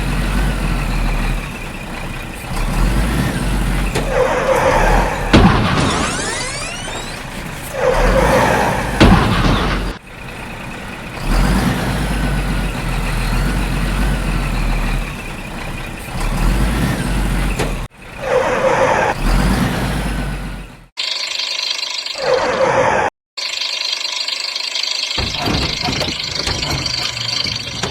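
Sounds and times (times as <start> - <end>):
heavy truck engine running: 0.0 - 20.9, 24.1 - 27.9.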